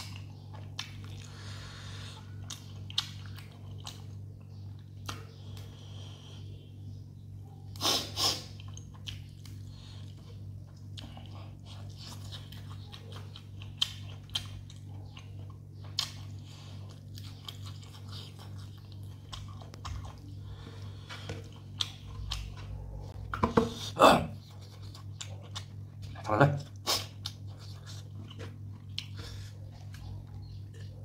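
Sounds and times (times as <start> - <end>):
person chewing food: 0.0 - 6.6, 7.7 - 31.0
steady low hum: 0.0 - 31.0.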